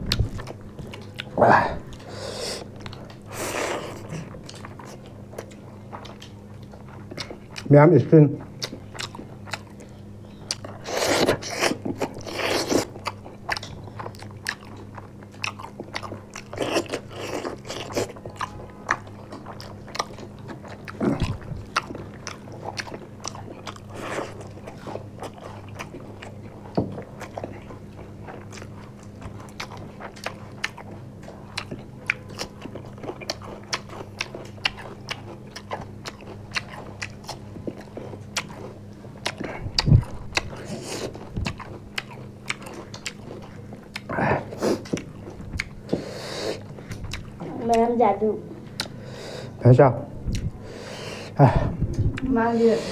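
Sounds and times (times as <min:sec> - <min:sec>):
people biting and chewing: 0:00.0 - 0:07.7, 0:08.4 - 0:47.9, 0:48.7 - 0:49.4
steady low hum: 0:00.0 - 0:52.9.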